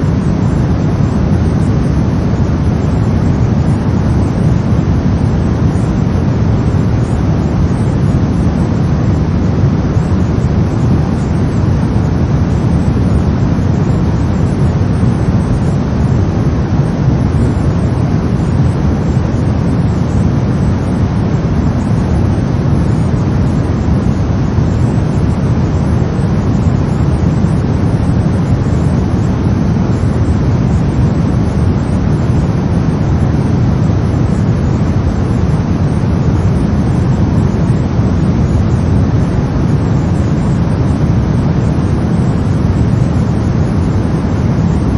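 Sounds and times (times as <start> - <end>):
brown noise rumbling hiss: 0.0 - 44.9.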